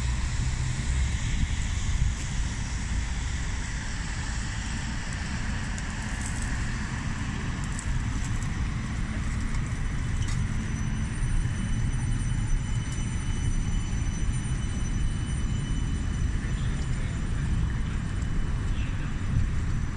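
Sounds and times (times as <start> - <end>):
electric tram rumbling: 0.0 - 19.9.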